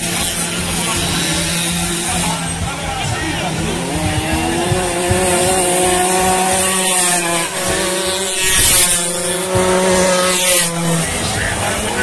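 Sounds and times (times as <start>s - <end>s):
scooter engines revving: 0.0s - 12.0s.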